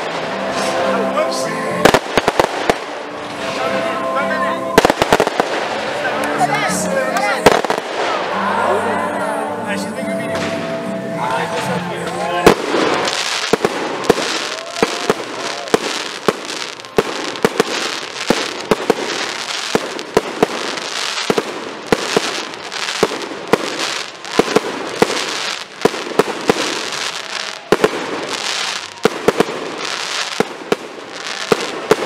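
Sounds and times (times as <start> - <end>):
fireworks crackle and hiss: 0.0 - 4.0, 4.8 - 8.2, 12.4 - 32.0
fireworks bangs: 0.0 - 4.1, 4.7 - 8.6, 12.4 - 32.0.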